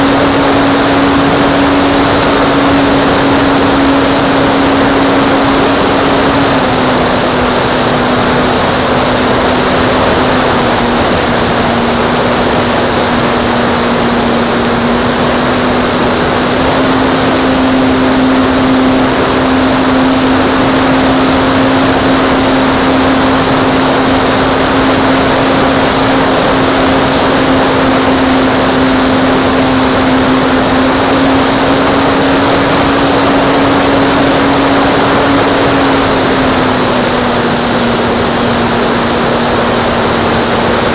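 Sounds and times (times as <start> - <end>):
model airplane motor and propeller: 0.0 - 40.9.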